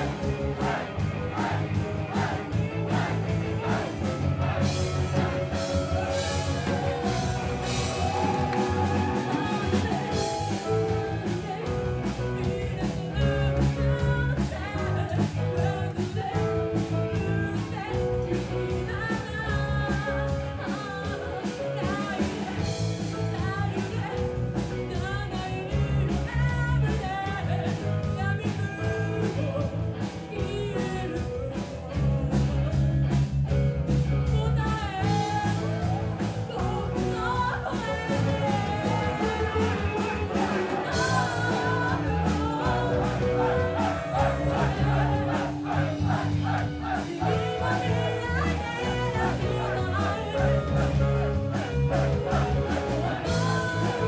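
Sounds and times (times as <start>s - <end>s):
live rock band playing: 0.0s - 54.0s
woman singing: 8.6s - 32.9s, 34.3s - 46.0s, 46.7s - 54.0s.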